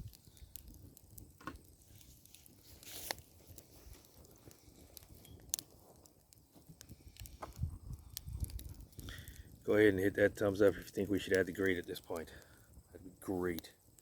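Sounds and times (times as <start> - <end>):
embers crackling and popping: 0.0 - 14.0.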